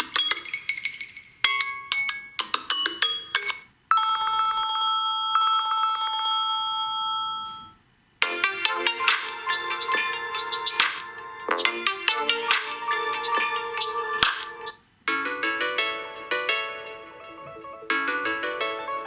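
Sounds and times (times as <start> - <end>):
phone ringtone melody: 0.3 - 19.0.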